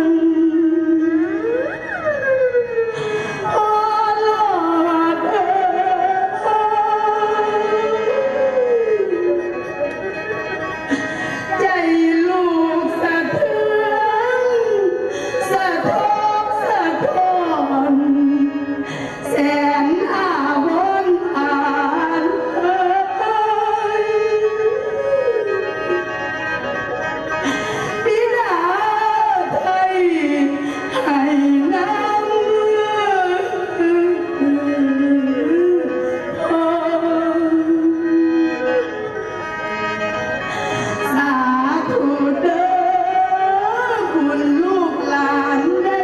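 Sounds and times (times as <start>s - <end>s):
instrumental accompaniment: 0.0s - 46.0s.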